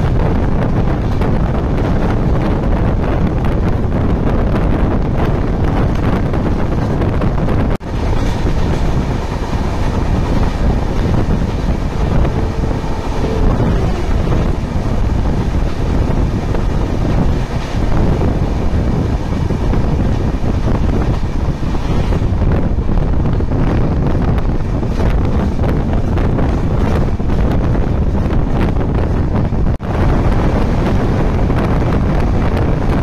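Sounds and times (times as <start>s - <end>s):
passing train coaches rushing: 0.0s - 33.0s
wind buffeting microphone: 0.0s - 33.0s.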